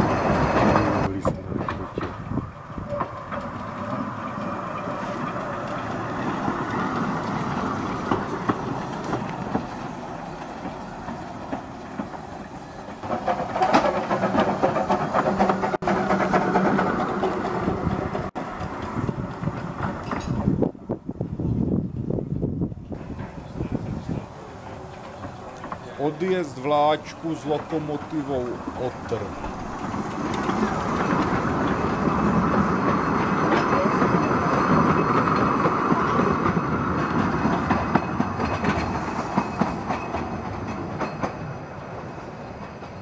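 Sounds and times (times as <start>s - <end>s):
steam locomotive running: 0.0s - 43.0s
wheels clicking over rail joints: 0.0s - 43.0s.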